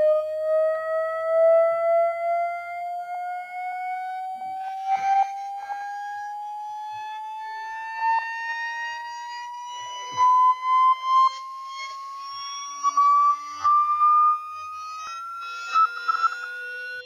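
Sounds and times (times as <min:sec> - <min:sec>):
rising sine-wave test tone: 0:00.0 - 0:17.0.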